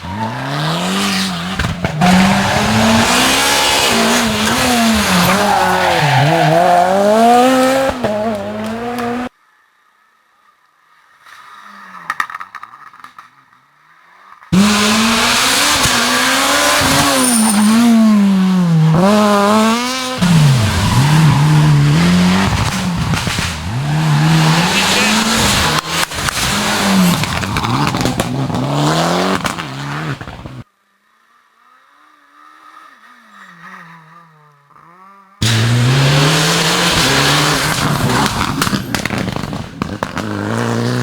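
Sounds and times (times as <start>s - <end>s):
rally car engine revving: 0.0s - 9.3s, 14.5s - 30.7s, 31.8s - 41.0s
faint rally car engine: 0.0s - 41.0s.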